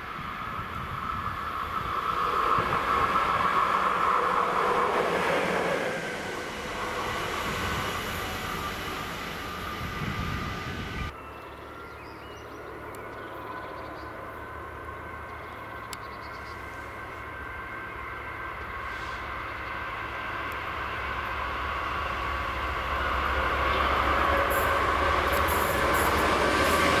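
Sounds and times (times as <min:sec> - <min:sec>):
outdoor ambience: 0:00.0 - 0:27.0
train passing on rails: 0:00.0 - 0:27.0.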